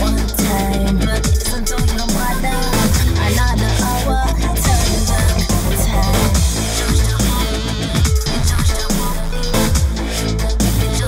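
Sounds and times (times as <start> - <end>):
music with heavy beat: 0.0 - 11.0.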